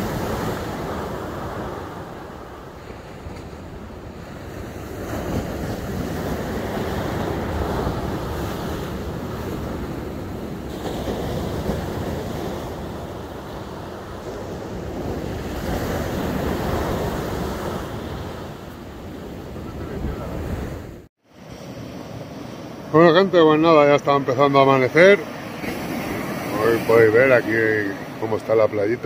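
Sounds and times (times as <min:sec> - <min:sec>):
surf breaking on beach: 0:00.0 - 0:29.0.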